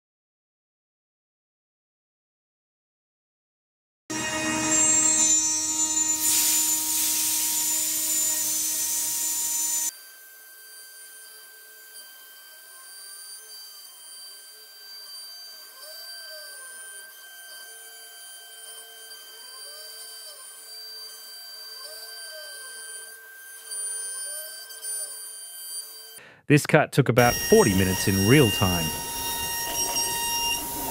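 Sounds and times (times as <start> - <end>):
router cutting hardwood: 4.1 - 26.2, 27.2 - 30.9.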